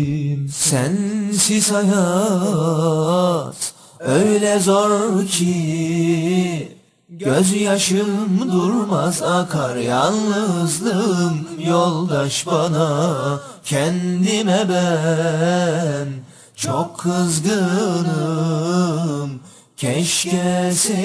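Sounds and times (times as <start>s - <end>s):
person singing with vibrato: 0.0s - 21.0s.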